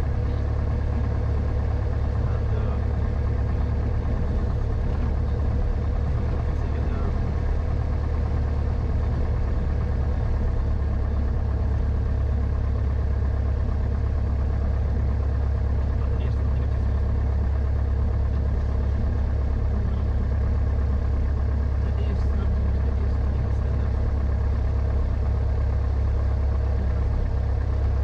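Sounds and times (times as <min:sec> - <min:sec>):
aircraft engine and propeller droning: 0:00.0 - 0:28.0.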